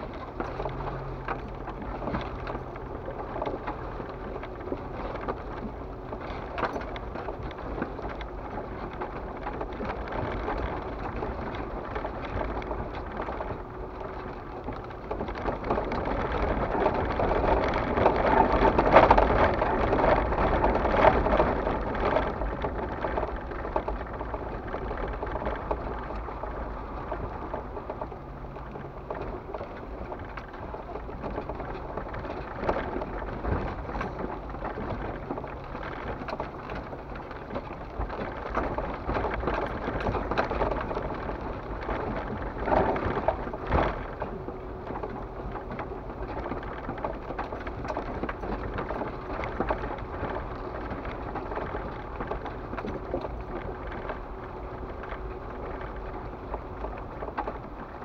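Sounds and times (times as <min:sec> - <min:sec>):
tyres crackling on stones: 0:00.0 - 0:58.0
vehicle engine rumble: 0:00.0 - 0:58.0.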